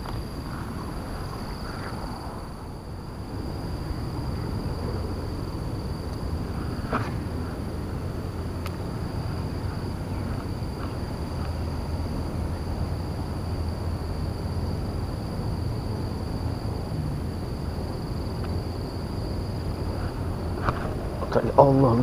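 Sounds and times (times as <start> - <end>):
high-pitched insect drone: 0.0 - 22.0
wind rumble on microphone: 0.0 - 22.0.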